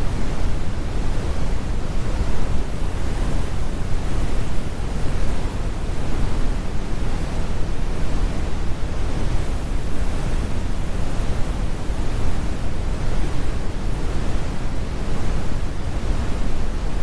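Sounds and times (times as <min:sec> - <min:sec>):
brown noise rumble: 0:00.0 - 0:17.0.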